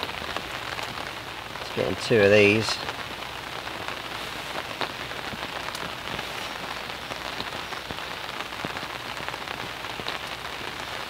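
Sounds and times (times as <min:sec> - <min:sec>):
rain on canvas umbrella: 0:00.0 - 0:11.0.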